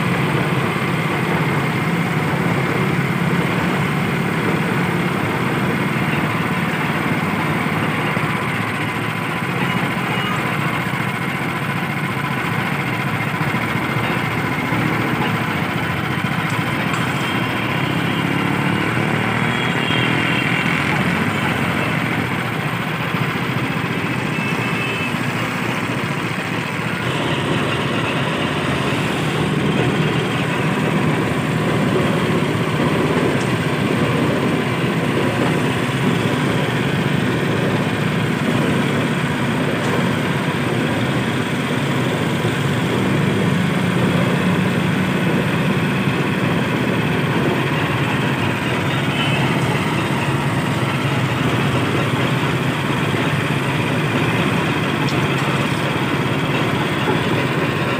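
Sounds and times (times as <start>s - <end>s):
juice machine motor running: 0.0s - 57.9s.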